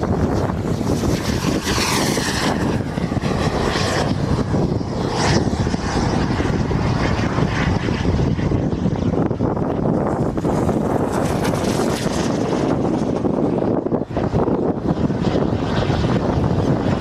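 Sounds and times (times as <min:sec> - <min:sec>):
model jet plane flying by: 0:00.0 - 0:17.0.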